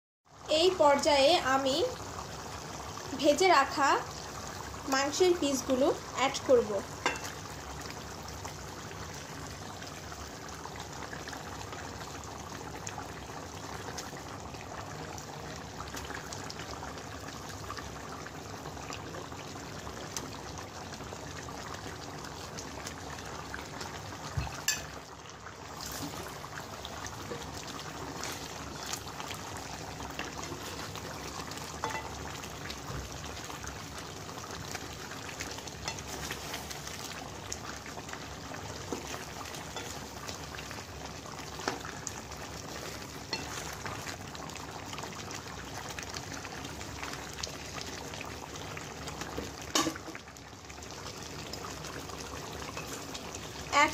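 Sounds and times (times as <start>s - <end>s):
gravy bubbling in a pot: 0.2s - 53.9s.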